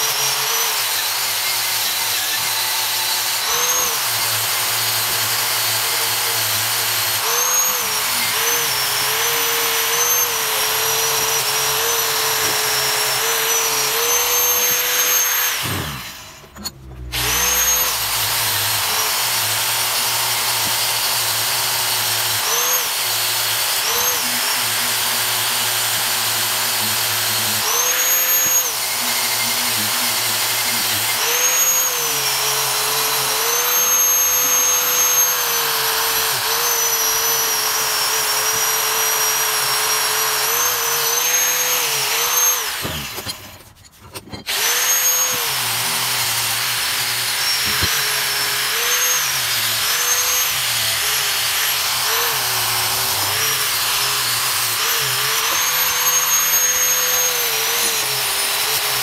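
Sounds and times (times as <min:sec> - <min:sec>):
power tool motor whining: 0:00.0 - 0:59.0.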